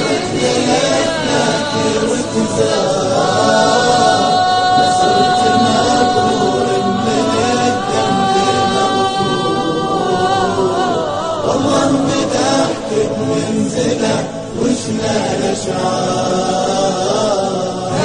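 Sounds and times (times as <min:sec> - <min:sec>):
devotional chant sung: 0:00.0 - 0:18.0.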